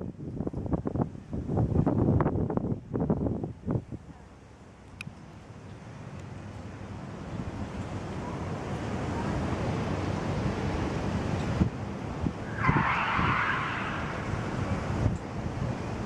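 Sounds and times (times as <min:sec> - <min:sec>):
wind buffeting microphone: 0:00.0 - 0:04.7, 0:05.4 - 0:16.0.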